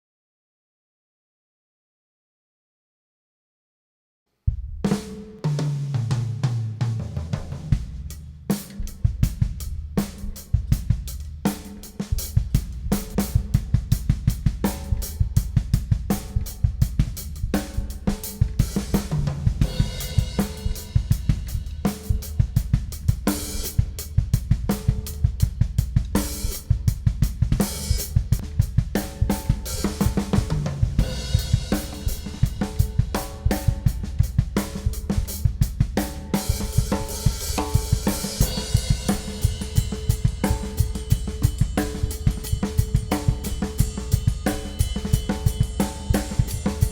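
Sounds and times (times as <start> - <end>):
drum kit groove: 4.5 - 46.9.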